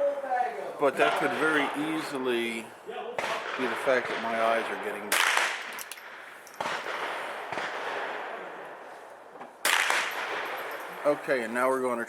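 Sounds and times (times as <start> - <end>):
rifle gunshots with echo: 1.0 - 8.9, 9.6 - 11.6.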